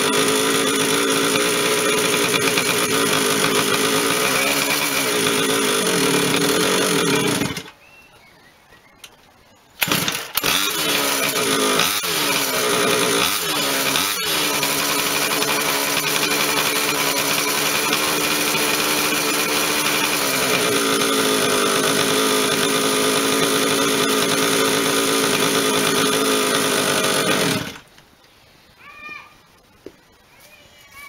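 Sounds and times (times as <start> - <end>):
small two-stroke engine idling: 0.0 - 7.7, 9.8 - 27.8.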